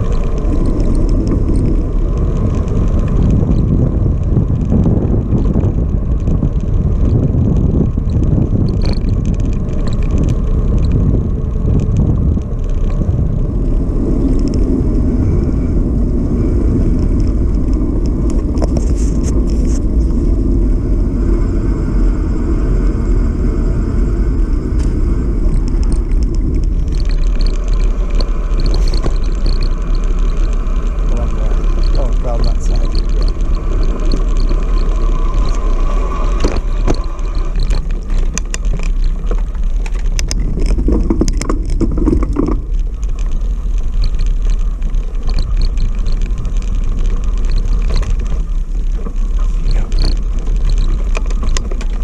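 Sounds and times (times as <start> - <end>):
bicycle tyre and road noise: 0.0 - 52.0
wind rumbling on microphone: 0.0 - 52.0.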